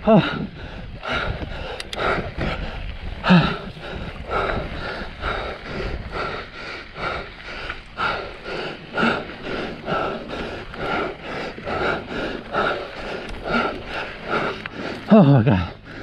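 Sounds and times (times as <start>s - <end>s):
person panting hard: 0.0s - 16.0s
wind: 0.0s - 16.0s.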